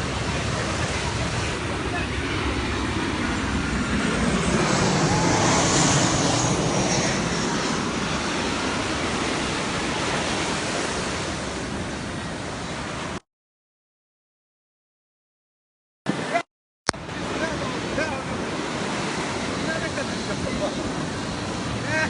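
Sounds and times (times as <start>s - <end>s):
sea surf breaking: 0.0s - 13.2s, 16.1s - 16.4s, 17.0s - 22.0s
wind: 0.0s - 13.2s, 16.1s - 22.0s.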